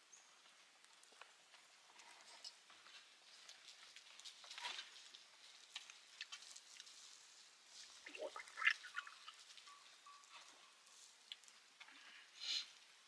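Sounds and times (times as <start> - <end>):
wood fire crackling: 0.3 - 10.3, 11.1 - 13.0.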